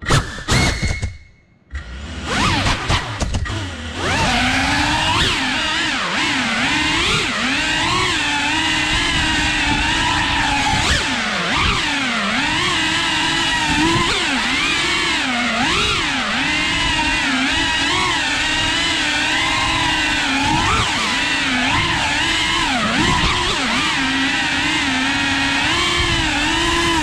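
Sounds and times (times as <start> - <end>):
quadcopter propellers whining: 1.7 - 27.0.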